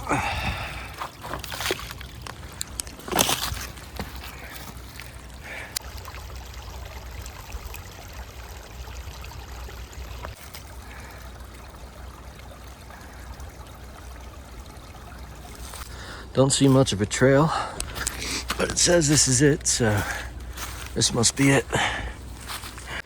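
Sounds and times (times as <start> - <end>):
small stream trickling: 0.0 - 23.0.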